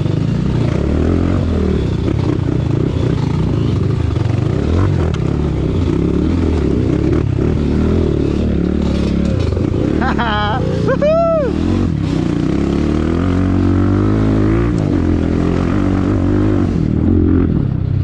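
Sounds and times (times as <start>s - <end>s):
dirt bike engine: 0.0s - 18.0s.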